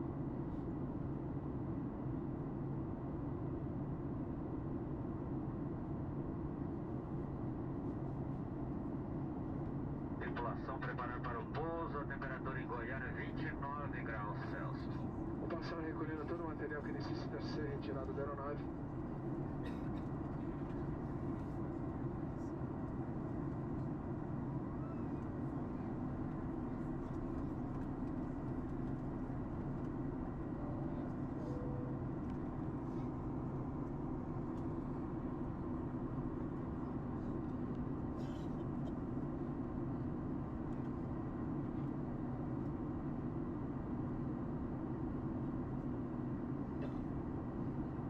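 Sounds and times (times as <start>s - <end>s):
airliner cabin engine rumble: 0.0s - 48.0s.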